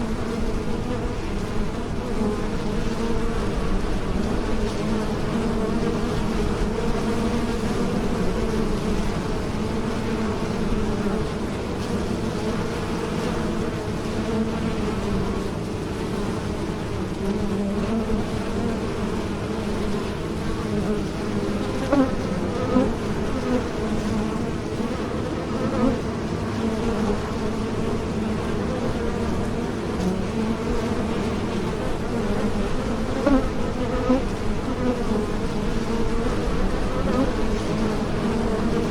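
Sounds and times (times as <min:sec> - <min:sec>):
bees buzzing close by: 0:00.0 - 0:38.9
honeybees buzzing in a swarm: 0:00.0 - 0:38.9.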